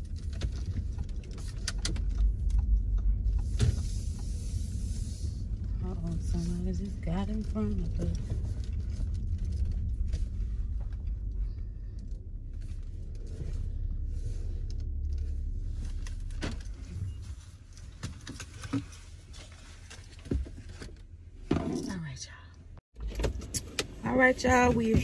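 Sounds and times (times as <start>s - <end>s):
car engine rumble from inside: 0.0s - 25.0s.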